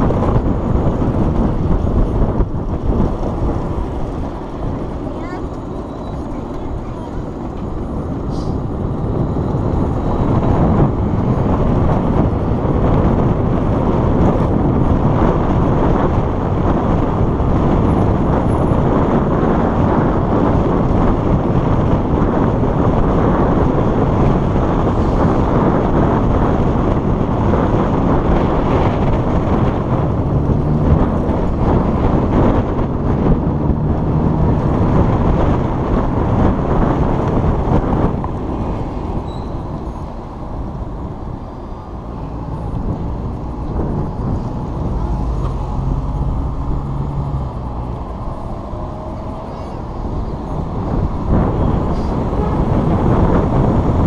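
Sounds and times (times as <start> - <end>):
low engine hum: 0.0 - 54.0
street traffic road noise: 0.0 - 54.0.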